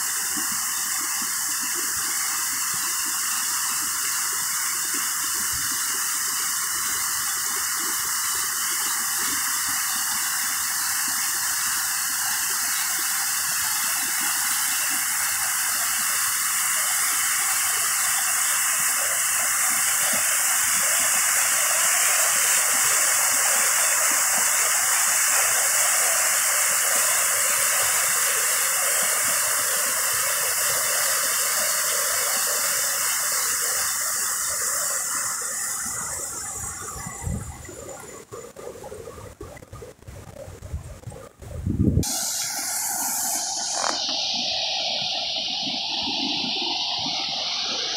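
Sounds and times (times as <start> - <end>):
water rushing over rocky rapids: 0.0 - 47.9.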